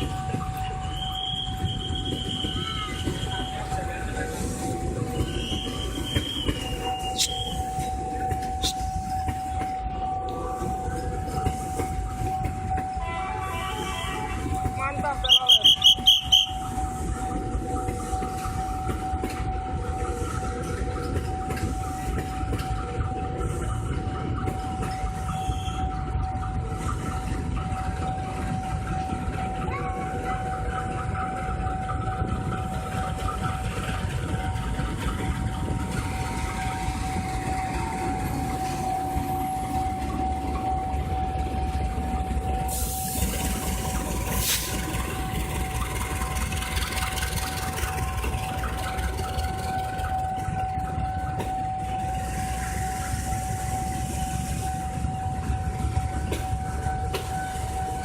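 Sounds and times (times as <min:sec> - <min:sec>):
high steady tone: 0:00.0 - 0:58.0
train wheels rumbling on rails: 0:00.0 - 0:58.0.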